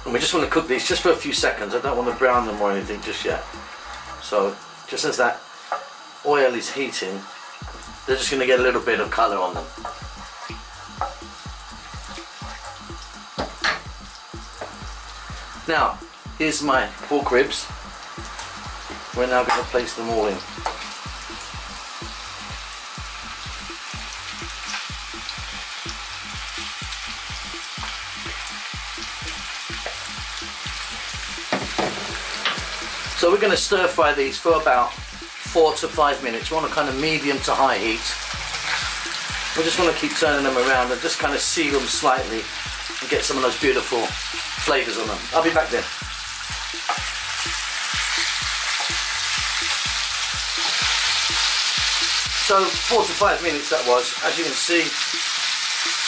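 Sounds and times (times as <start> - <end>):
background music with low beat: 0.0 - 4.2, 7.6 - 53.6, 55.0 - 56.0
meat sizzling in oil: 0.0 - 56.0.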